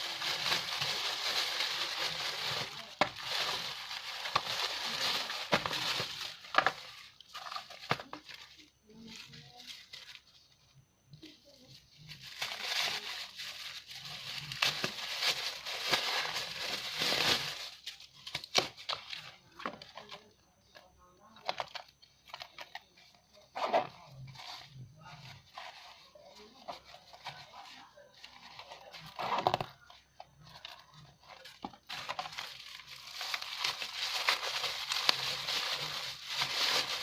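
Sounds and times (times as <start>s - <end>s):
plastic packaging crinkling and tearing: 0.0s - 10.6s, 11.2s - 37.0s.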